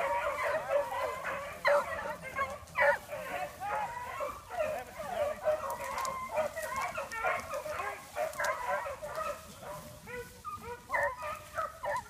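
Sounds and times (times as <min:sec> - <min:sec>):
pack of beagles baying: 0:00.0 - 0:12.0.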